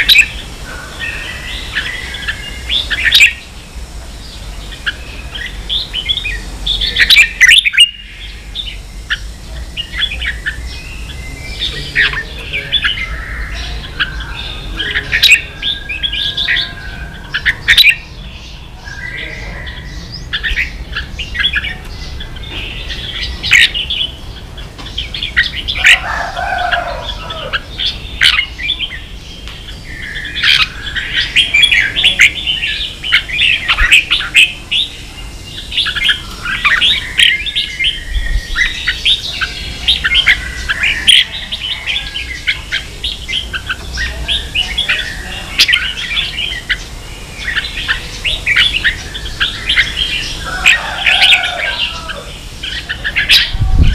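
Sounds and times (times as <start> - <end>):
bird chirping song: 0.0 - 53.9.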